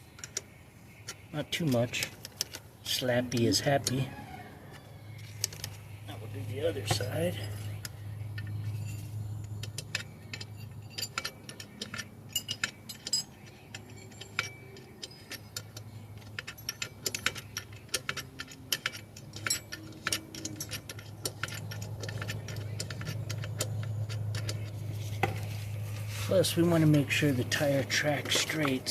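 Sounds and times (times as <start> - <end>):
tools and steel parts clinking: 0.0 - 28.9.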